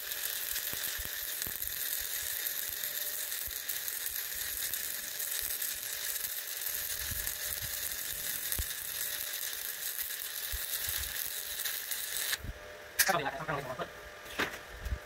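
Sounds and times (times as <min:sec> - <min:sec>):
welding arc hissing and crackling: 0:00.0 - 0:13.8.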